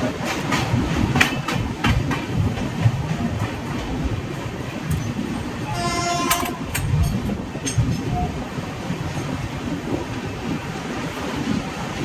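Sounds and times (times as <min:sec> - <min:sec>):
train coach rumbling and rattling: 0:00.0 - 0:12.0.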